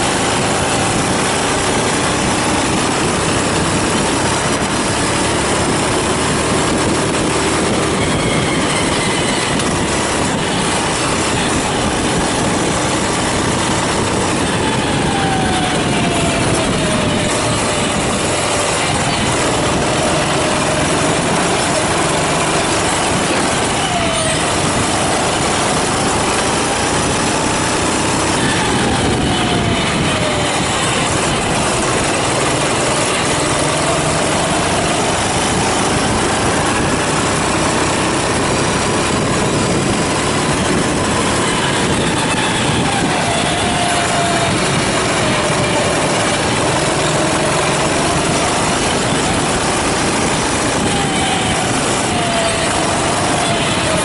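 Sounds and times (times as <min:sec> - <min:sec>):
kart engine running hard: 0:00.0 - 0:54.0
wind and track noise: 0:00.0 - 0:54.0.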